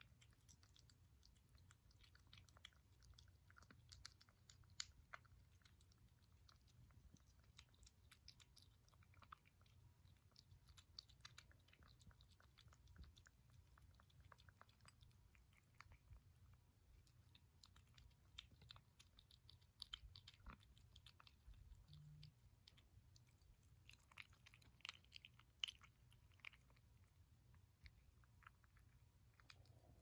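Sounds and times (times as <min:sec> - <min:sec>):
faint low hum: 0:00.0 - 0:30.0
kitten chewing food: 0:00.0 - 0:30.0.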